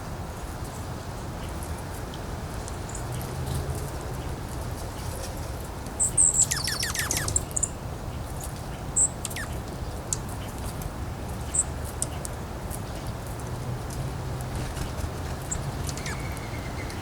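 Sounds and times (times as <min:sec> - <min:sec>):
low rumble of wind: 0:00.0 - 0:17.0
songbirds chirping: 0:00.6 - 0:17.0.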